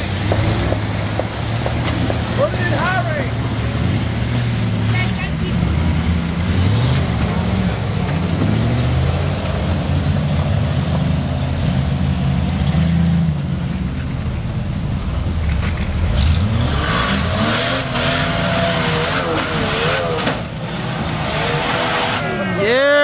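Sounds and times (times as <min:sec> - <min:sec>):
car engine revving under load: 0:00.0 - 0:22.6.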